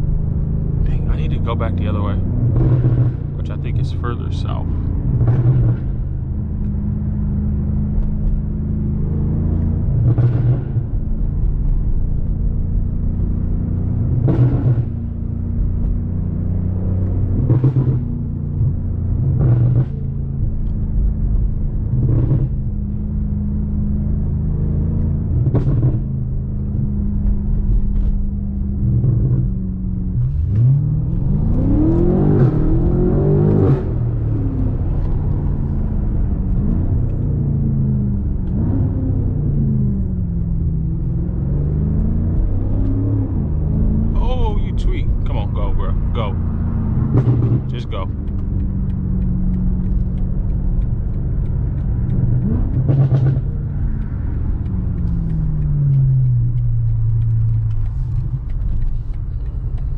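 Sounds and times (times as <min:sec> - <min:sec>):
car engine cruising and revving: 0:00.0 - 0:59.9.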